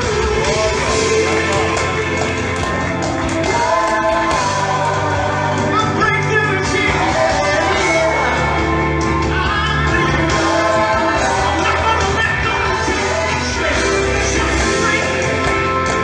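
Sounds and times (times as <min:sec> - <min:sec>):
gospel band playing: 0:00.0 - 0:16.0
people singing: 0:00.0 - 0:16.0.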